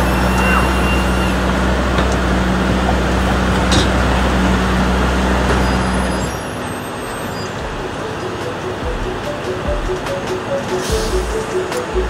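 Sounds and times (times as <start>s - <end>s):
large vehicle engine humming: 0.0s - 12.0s
street traffic noise: 0.0s - 12.0s.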